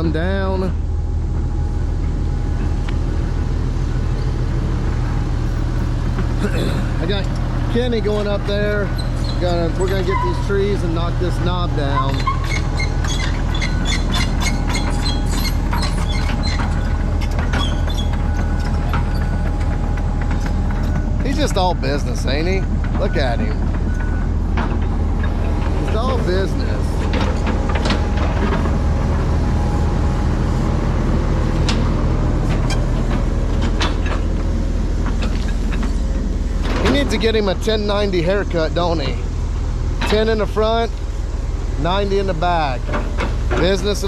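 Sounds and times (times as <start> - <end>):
diesel engine running: 0.0 - 44.0
metallic clanks from tracks: 1.3 - 39.2.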